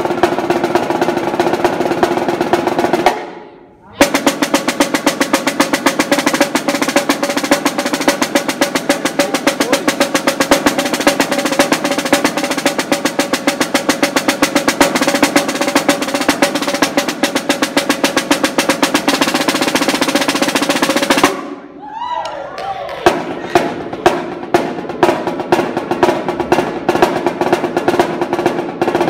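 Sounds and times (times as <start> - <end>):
snare drum solo: 0.0 - 21.7, 23.0 - 29.0.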